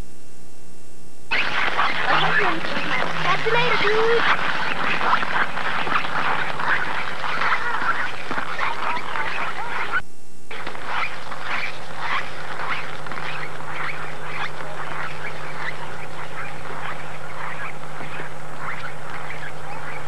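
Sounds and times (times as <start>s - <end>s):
steady low hum: 0.0s - 20.0s
footsteps crunching on snow: 1.3s - 20.0s.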